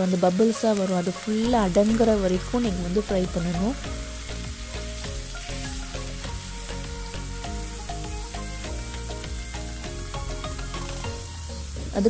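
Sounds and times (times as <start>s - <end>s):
background music: 0.0s - 12.0s
potatoes deep-frying in oil: 0.0s - 12.0s.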